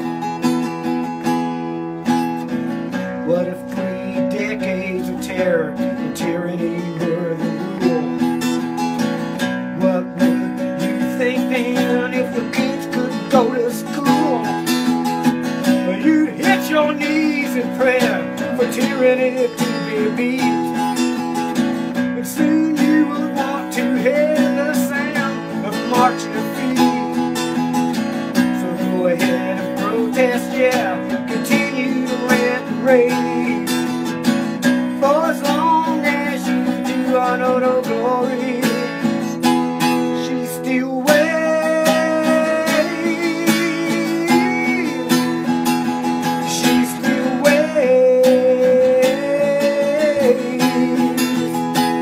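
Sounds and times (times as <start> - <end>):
acoustic guitar strumming: 0.0 - 52.0.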